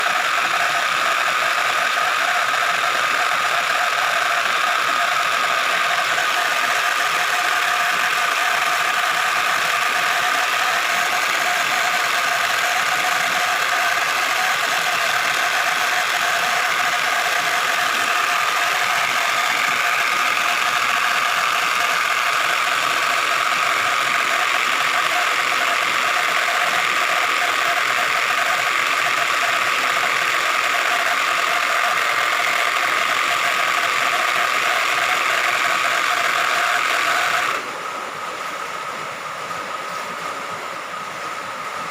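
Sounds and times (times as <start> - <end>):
machine whining and rattling: 0.0 - 38.9.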